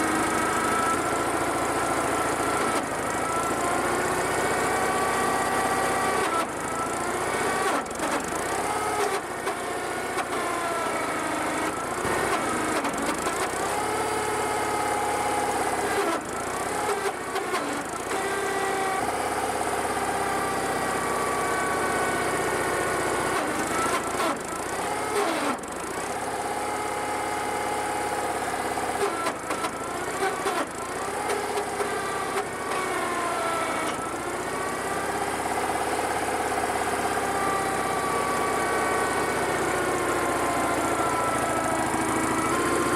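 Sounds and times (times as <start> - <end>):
wood splitter engine running: 0.0 - 42.9.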